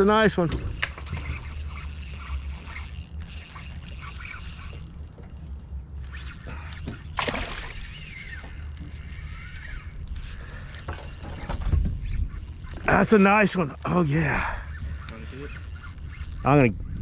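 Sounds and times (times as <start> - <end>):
fishing reel gears clicking: 0.0 - 17.0.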